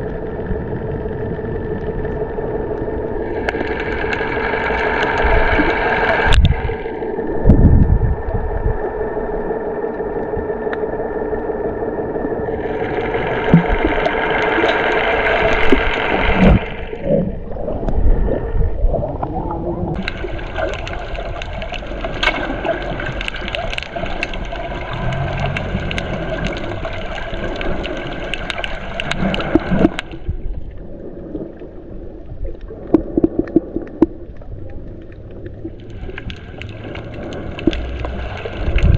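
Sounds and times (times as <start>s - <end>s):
steady hum: 0.0s - 38.9s
water gurgling and sloshing: 0.0s - 38.9s.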